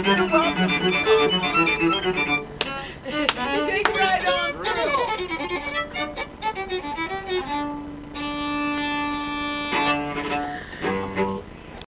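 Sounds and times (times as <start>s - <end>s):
violin playing: 0.0s - 11.6s.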